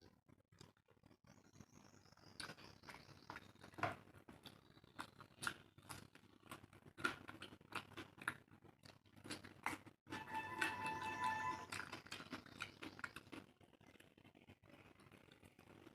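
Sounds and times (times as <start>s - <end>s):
mouth chewing food: 0.5s - 15.9s.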